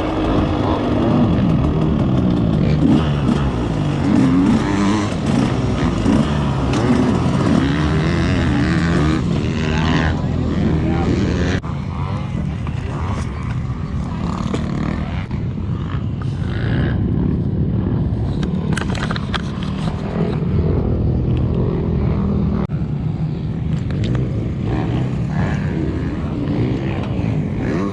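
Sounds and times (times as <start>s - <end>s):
motocross bike engine revving: 0.0s - 22.7s, 23.9s - 27.9s.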